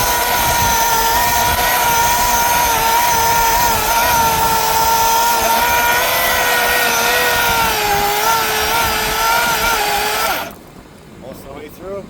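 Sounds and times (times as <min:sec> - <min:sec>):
electric chainsaw cutting wood: 0:00.0 - 0:10.6.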